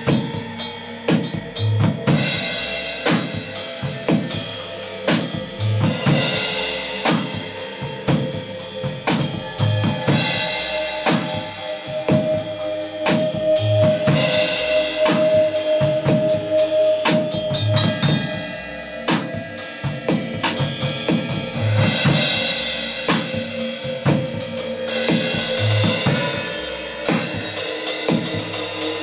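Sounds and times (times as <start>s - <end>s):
drum kit groove: 0.0s - 29.0s.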